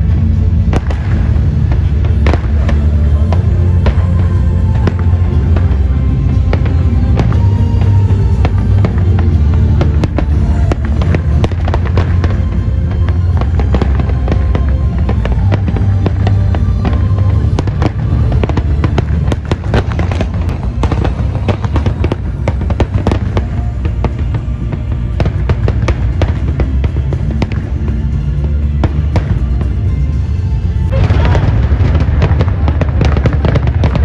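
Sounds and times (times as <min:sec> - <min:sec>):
fireworks cracking and crackling: 0:00.0 - 0:34.0
low rumble: 0:00.0 - 0:34.0
music playing: 0:00.0 - 0:34.0.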